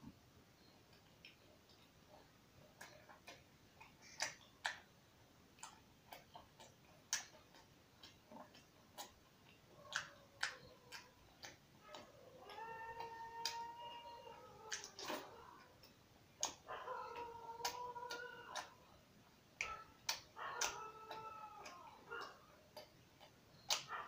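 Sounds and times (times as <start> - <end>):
mouth chewing food: 0.6 - 24.0
pet animal whining: 1.4 - 4.9, 5.6 - 19.0, 19.6 - 24.0.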